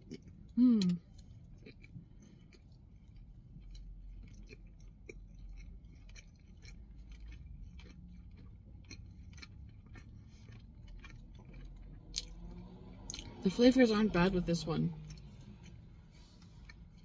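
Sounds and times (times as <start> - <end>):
person chewing crunchy food: 0.0 - 13.4, 14.9 - 17.0.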